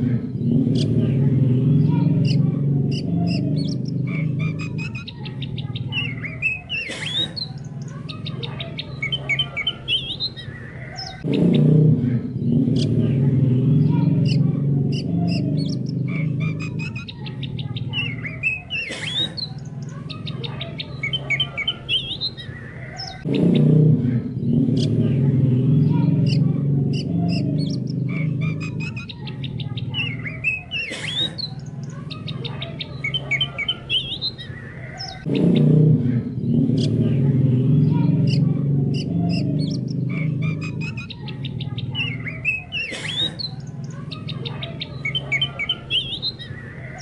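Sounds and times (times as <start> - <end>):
bird song with whistles and trills: 1.6 - 11.7, 12.4 - 23.8, 24.4 - 35.8, 37.6 - 47.0.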